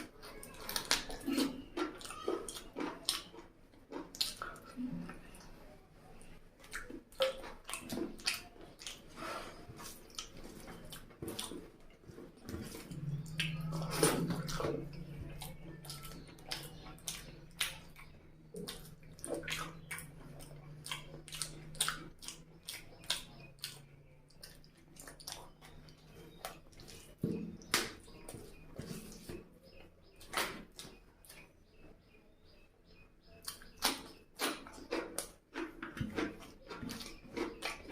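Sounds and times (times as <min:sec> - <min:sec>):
wet chewing and lip smacks: 0:00.0 - 0:05.6, 0:06.2 - 0:31.6, 0:33.3 - 0:37.9.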